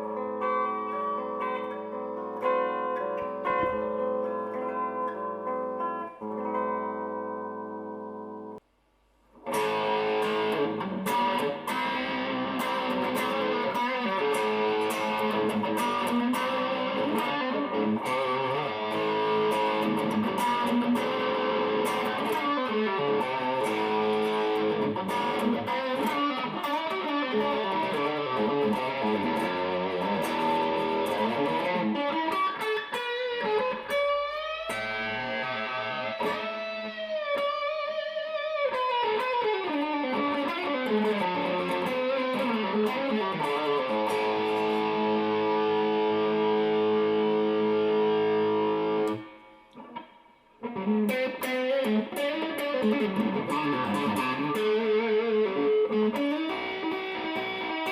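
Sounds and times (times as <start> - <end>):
electric guitar chord ringing: 0.0 - 8.6, 9.4 - 57.9.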